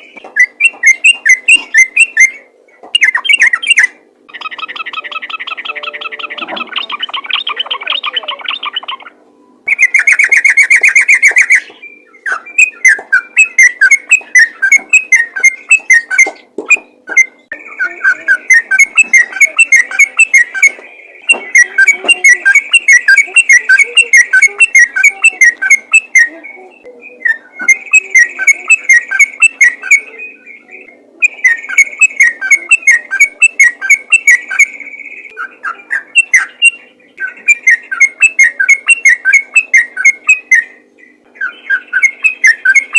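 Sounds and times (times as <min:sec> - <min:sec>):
bird singing bubbly notes: 0:00.0 - 0:42.9.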